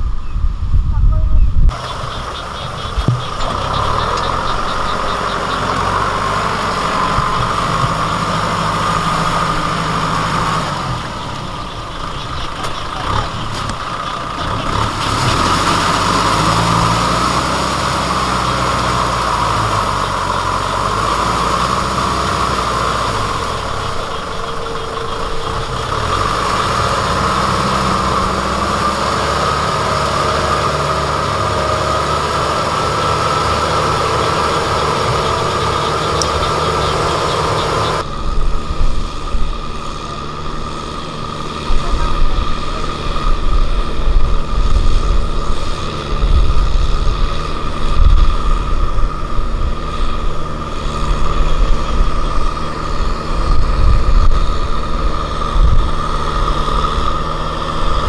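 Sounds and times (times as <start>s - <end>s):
steady high whine: 0.0s - 58.0s
tractor diesel engine running: 0.0s - 58.0s.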